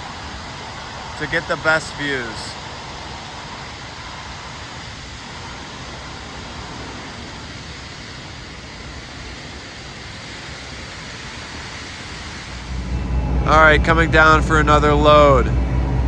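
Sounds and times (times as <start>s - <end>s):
city street background noise: 0.0s - 16.0s.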